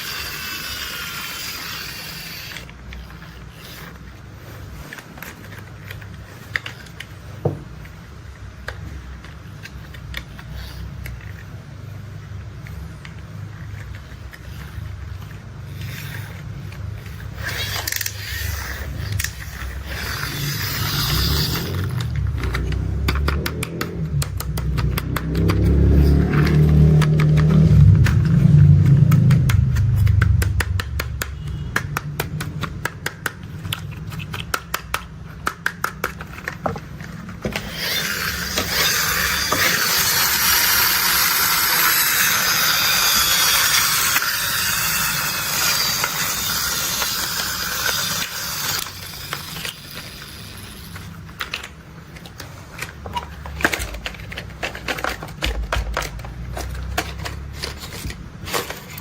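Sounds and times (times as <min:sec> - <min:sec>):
toy clicks and plastic rattles: 0:00.0 - 0:07.2, 0:08.6 - 0:11.6, 0:12.4 - 0:59.0.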